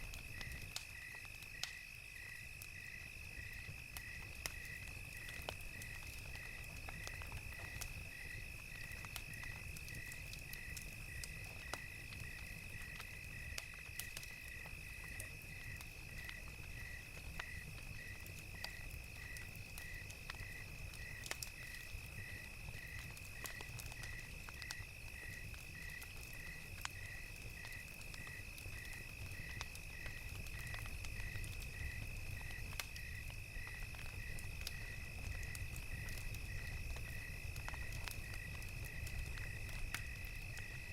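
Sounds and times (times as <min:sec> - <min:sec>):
cricket chirping: 0:00.0 - 0:40.9
wood fire crackling: 0:00.0 - 0:40.9.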